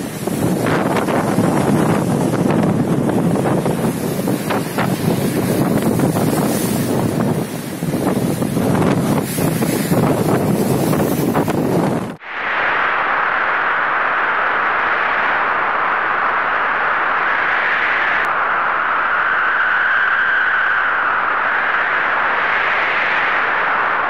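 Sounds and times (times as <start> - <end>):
storm rushing hiss: 0.0 - 24.0.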